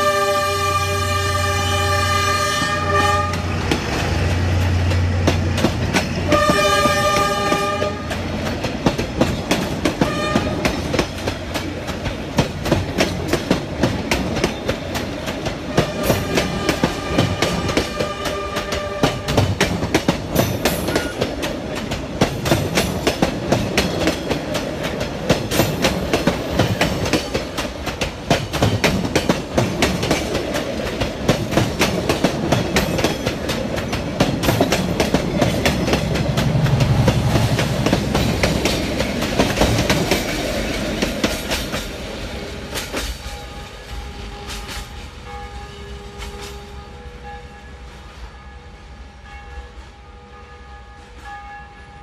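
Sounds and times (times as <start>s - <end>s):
low train rumble: 0.0s - 52.0s
wheels clacking over rail joints: 3.1s - 45.3s.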